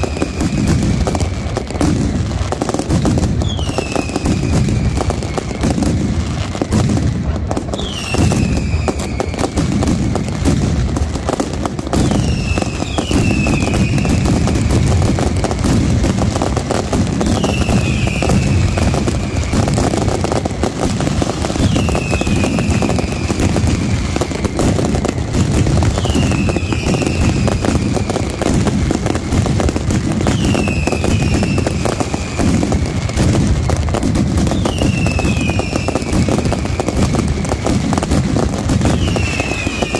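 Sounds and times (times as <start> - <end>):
falling firework whistles: 0.0 - 39.9
firecracker barrage: 0.0 - 39.9.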